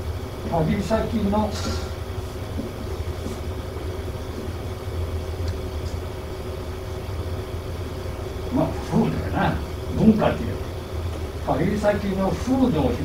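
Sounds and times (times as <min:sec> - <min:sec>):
low equipment hum: 0:00.0 - 0:13.0.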